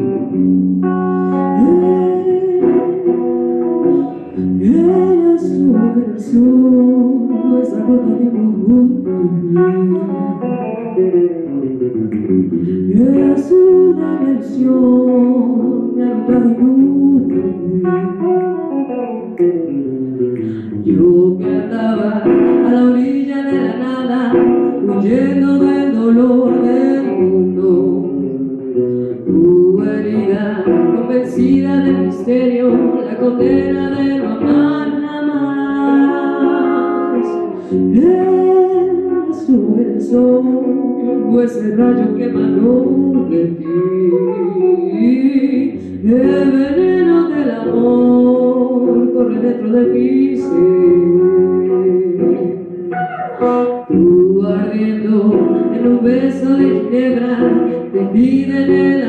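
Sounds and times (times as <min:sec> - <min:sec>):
woman singing into a microphone: 0:00.0 - 0:11.6, 0:12.4 - 0:59.0
guitar accompaniment: 0:00.0 - 0:59.0.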